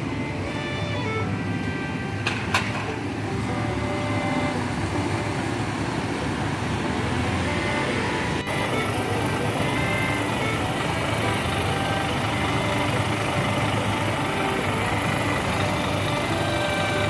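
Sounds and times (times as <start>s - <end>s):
diesel bus engine rumble: 0.0s - 17.0s.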